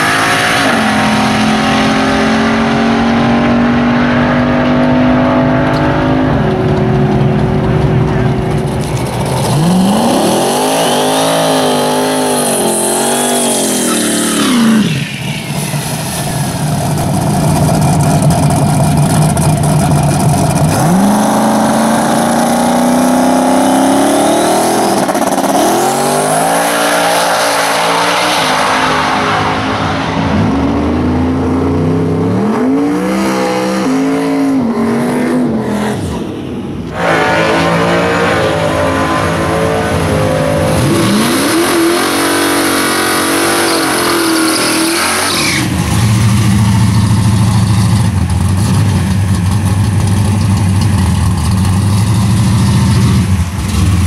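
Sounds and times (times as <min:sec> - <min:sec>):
drag car engine revving: 0:00.0 - 0:54.0
loud drag car engine running: 0:00.0 - 0:54.0.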